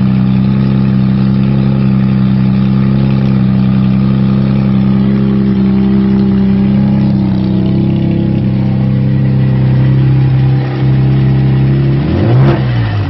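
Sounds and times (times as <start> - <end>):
car engine running and revving: 0.0 - 13.0.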